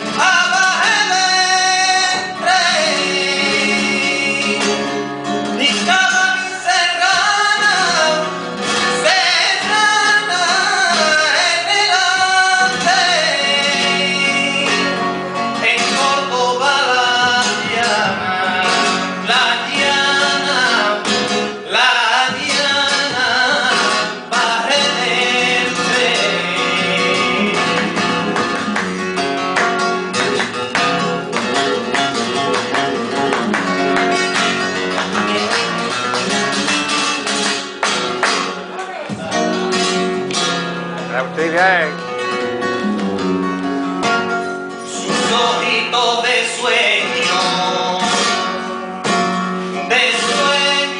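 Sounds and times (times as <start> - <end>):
man singing: 0.0 - 35.9, 44.6 - 50.9
flamenco guitar: 0.0 - 50.9.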